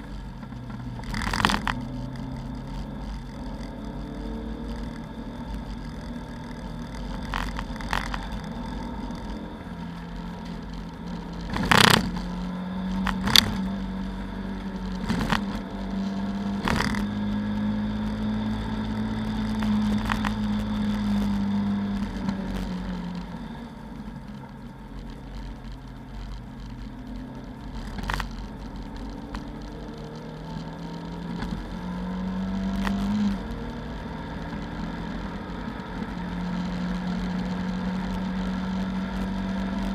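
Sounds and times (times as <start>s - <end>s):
car engine under load: 0.0s - 39.9s.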